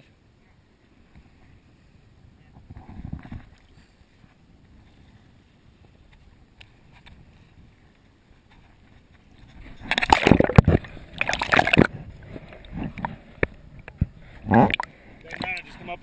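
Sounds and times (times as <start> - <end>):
water splashing beside a kayak: 0.8 - 16.0.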